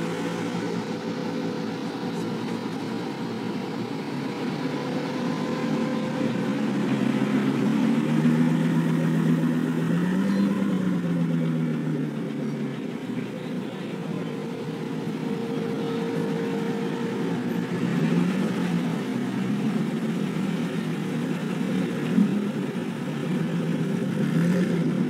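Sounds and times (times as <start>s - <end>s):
car engine at low revs: 0.0s - 25.0s.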